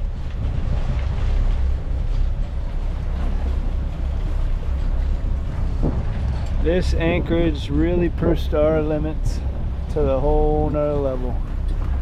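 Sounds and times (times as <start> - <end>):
boat engine rumble: 0.0 - 12.0
wind and water wash: 0.0 - 12.0.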